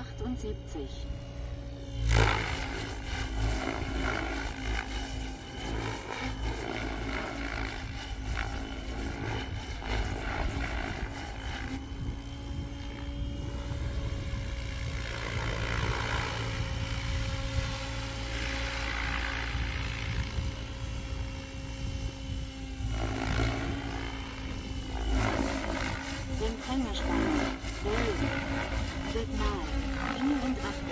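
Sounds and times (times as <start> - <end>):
rc helicopter rotor hum: 0.0 - 30.9.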